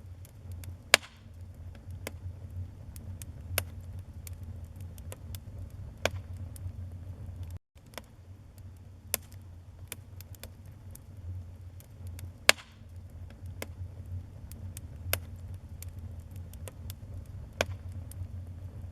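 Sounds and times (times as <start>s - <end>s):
fire flames rumbling: 0.0s - 18.9s
fire popping and snapping: 0.0s - 18.9s.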